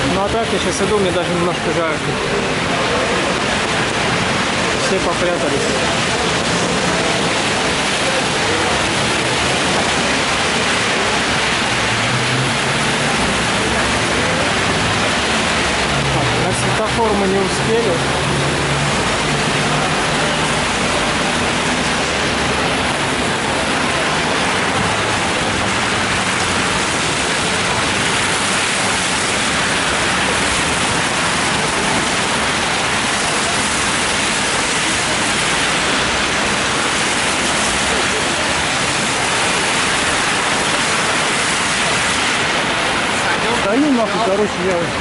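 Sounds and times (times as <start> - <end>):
car tyres swishing on wet road: 0.0 - 45.0
rain on an umbrella: 0.0 - 45.0.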